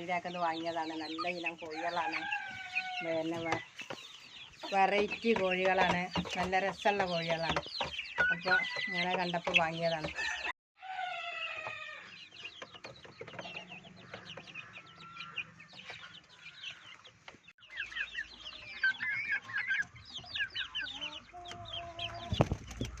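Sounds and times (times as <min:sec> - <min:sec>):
chickens clucking: 0:00.0 - 0:10.5, 0:11.5 - 0:23.0.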